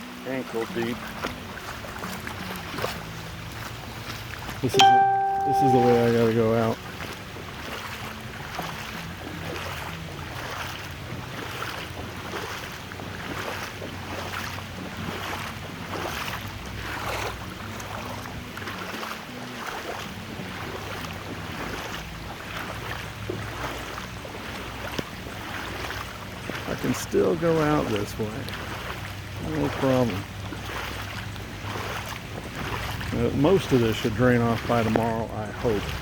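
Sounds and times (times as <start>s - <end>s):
footsteps splashing through water: 0.0s - 36.0s.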